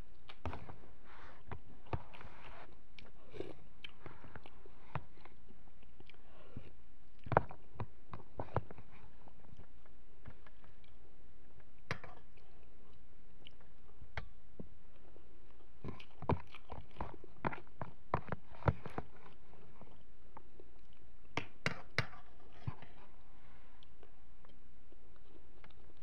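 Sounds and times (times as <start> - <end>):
quiet chewing: 0.1 - 26.0.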